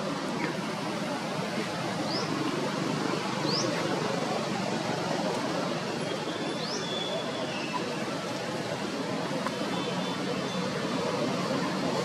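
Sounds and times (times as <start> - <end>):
outdoor background murmur: 0.0 - 12.0.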